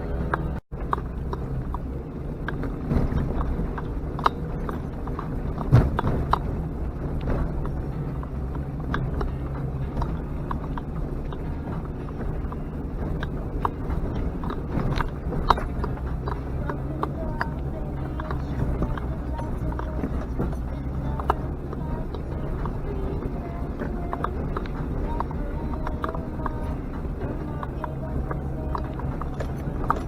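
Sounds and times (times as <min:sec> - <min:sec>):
knocks and rattles: 0:00.0 - 0:30.0
vehicle engine droning: 0:00.0 - 0:30.0.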